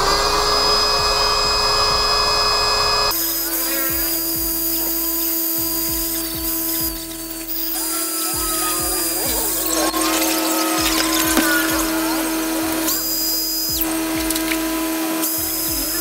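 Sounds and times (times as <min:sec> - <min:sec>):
electric air pump motor whine: 0:00.0 - 0:16.0.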